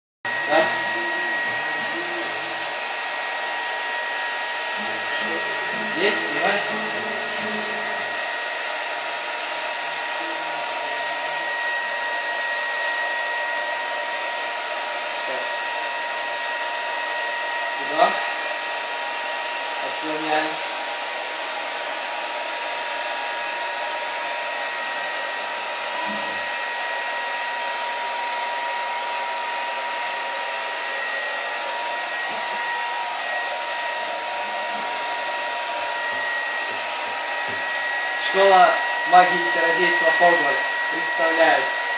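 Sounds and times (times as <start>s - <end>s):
hair dryer running: 0.3s - 41.9s.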